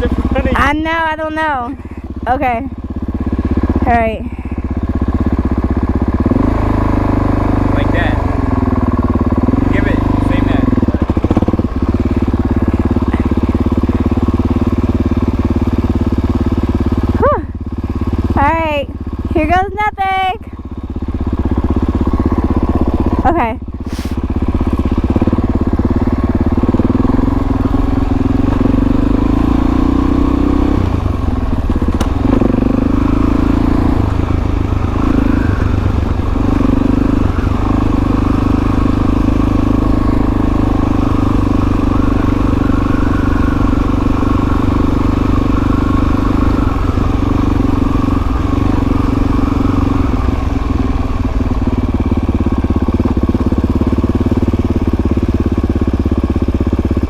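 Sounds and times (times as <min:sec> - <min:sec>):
dirt bike engine at low revs: 0:00.0 - 0:57.0.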